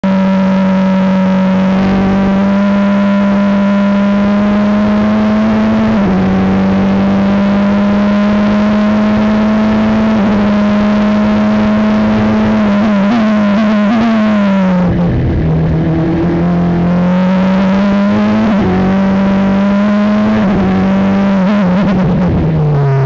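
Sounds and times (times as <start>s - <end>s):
race car engine at full throttle: 0.0s - 23.0s.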